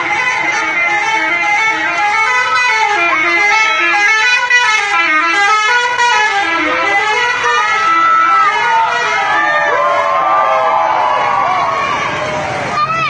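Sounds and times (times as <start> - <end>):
multi-tone musical bus horn: 0.0 - 12.4.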